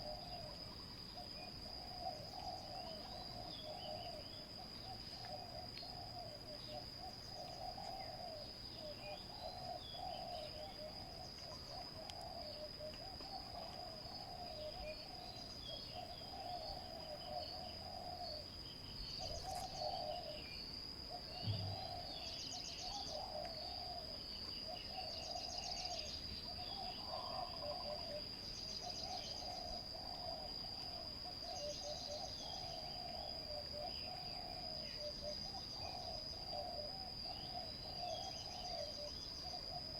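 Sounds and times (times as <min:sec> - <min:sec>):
doves cooing: 0:00.0 - 0:18.5, 0:19.2 - 0:20.4, 0:21.1 - 0:39.9
small birds chirping: 0:00.0 - 0:39.9.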